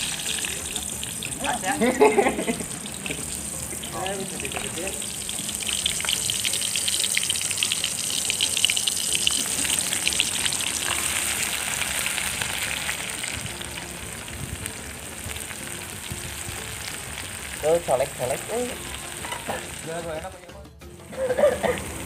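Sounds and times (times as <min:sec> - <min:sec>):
hot oil sizzling in a wok: 0:00.0 - 0:20.4, 0:21.0 - 0:22.0.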